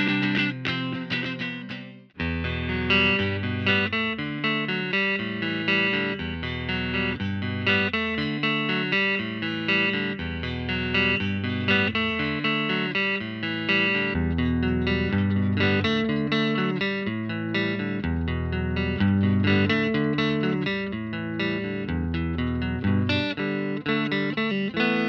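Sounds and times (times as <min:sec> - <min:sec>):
electric guitar through amp: 0:00.0 - 0:25.0.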